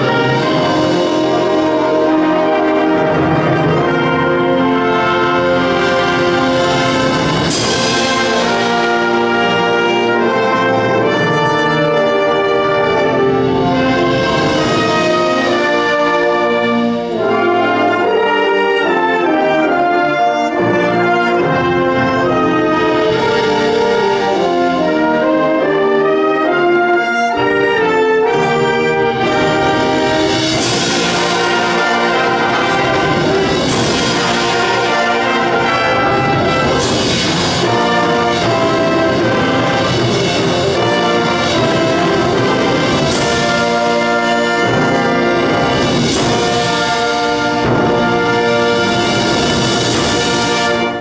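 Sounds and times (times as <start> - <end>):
wind band brass chords: 0.0 - 51.0.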